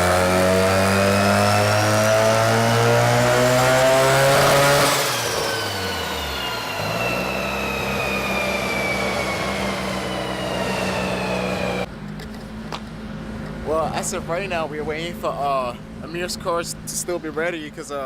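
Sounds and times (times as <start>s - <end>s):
dyno rollers whine: 0.0s - 17.4s.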